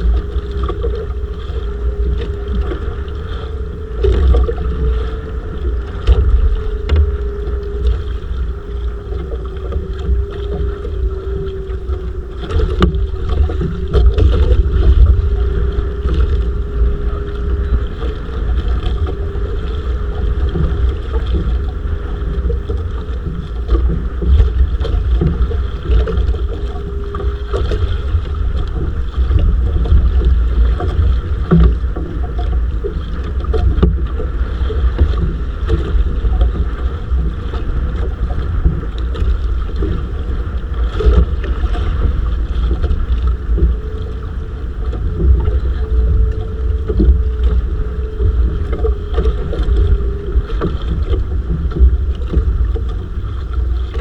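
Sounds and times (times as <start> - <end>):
faint hum: 0.0 - 54.0
wind rumbling on microphone: 0.0 - 54.0.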